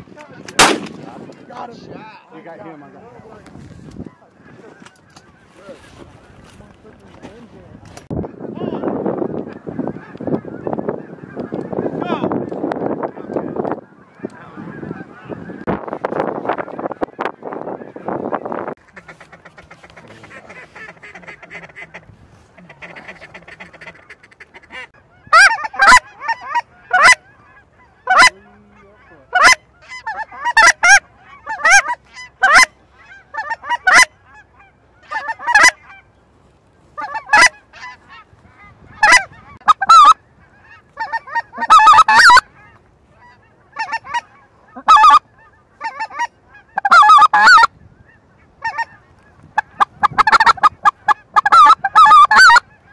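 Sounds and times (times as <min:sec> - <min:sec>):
goose honking: 0:03.9 - 0:07.3, 0:08.8 - 0:36.1, 0:37.0 - 0:52.9.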